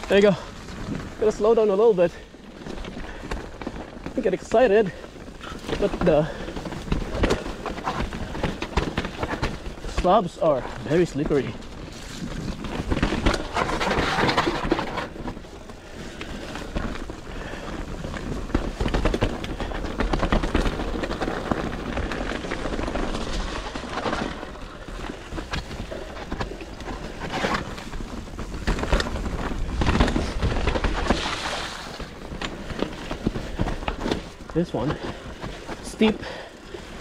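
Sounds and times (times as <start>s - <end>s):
bike rattling and knocking: 0.0s - 37.0s
tyres rushing over dirt: 0.0s - 37.0s.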